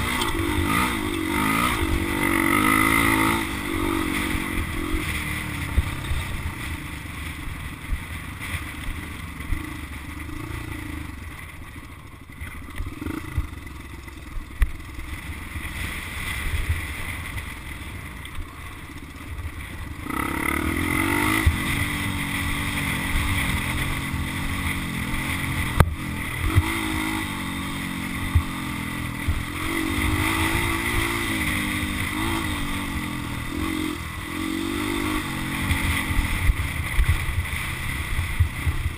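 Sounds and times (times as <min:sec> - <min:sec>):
dirt bike engine revving: 0:00.0 - 0:11.5, 0:12.5 - 0:17.1, 0:19.9 - 0:38.9.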